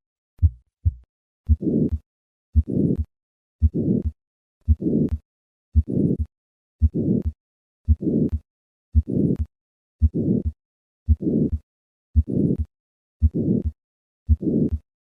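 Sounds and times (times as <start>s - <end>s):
heartbeat through stethoscope: 0.4s - 2.0s, 2.6s - 5.2s, 5.8s - 11.6s, 12.2s - 14.8s.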